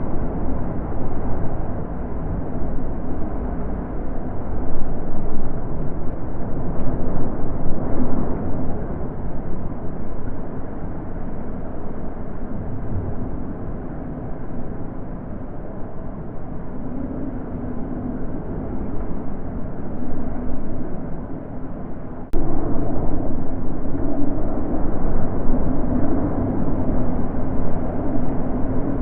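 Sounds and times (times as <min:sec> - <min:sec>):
wind blowing in gusts: 0:00.0 - 0:29.0.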